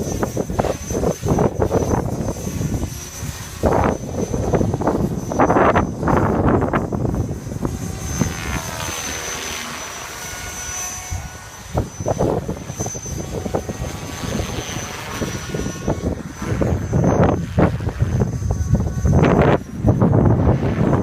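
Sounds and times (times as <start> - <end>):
rc helicopter whine: 0.0 - 21.0
wind buffeting microphone: 0.0 - 21.0.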